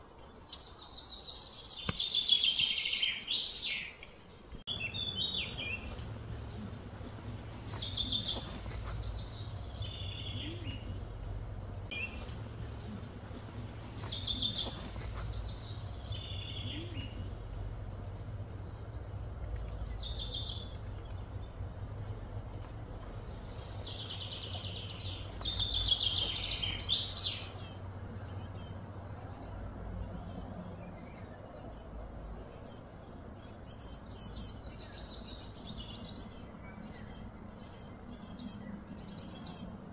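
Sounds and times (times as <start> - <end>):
birds chirping: 0.0 - 39.9
steady low hum: 4.3 - 39.9.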